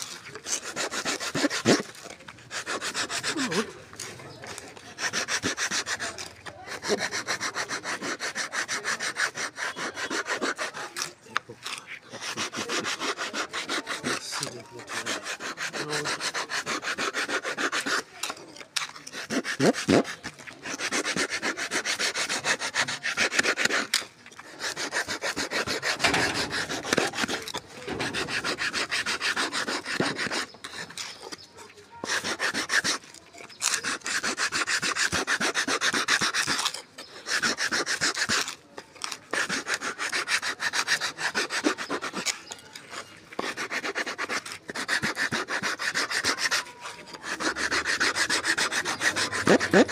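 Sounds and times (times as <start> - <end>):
sandpaper rasping on wood block: 0.0 - 49.9.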